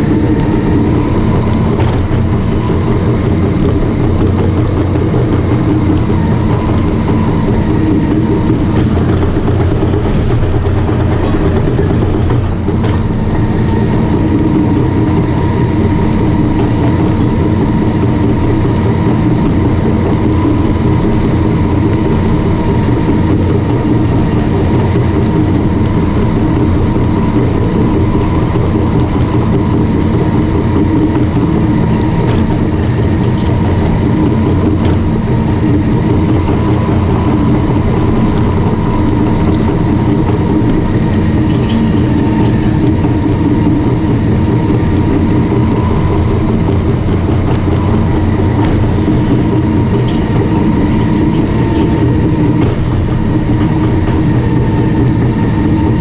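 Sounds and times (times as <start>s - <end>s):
bulldozer running: 0.0s - 56.0s
thin steady whine: 0.0s - 56.0s.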